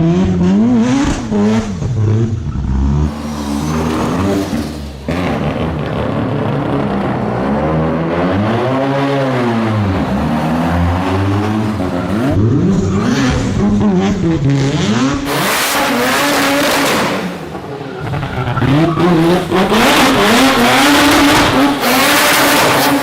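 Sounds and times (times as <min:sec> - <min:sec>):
car engine revving hard: 0:00.0 - 0:23.0.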